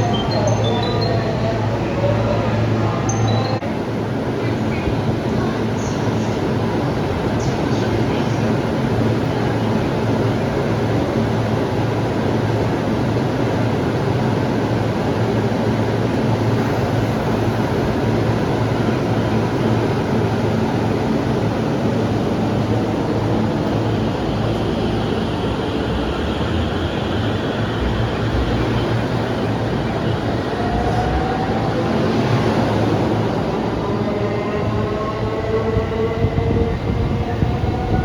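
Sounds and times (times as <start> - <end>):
electric train rumble and hum: 0.0 - 38.0.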